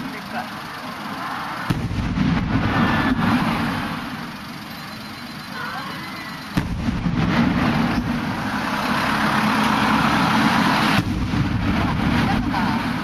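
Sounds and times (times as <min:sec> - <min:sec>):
loud continuous rumble: 0:00.0 - 0:13.0
firework shells bursting: 0:00.5 - 0:05.2, 0:06.2 - 0:13.0.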